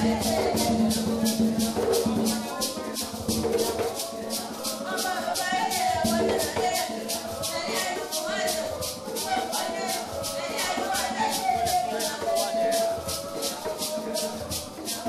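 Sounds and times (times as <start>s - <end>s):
choir singing: 0.0s - 15.0s
hand shaker beat: 0.0s - 15.0s.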